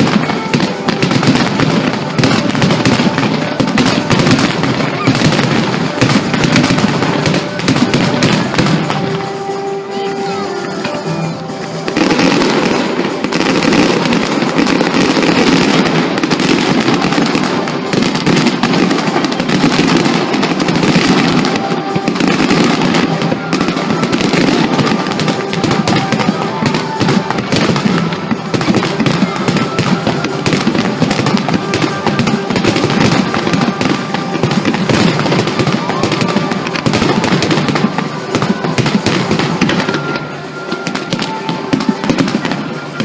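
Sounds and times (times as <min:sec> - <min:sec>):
fireworks bangs and crackling: 0:00.0 - 0:43.0
music playing: 0:00.0 - 0:43.0.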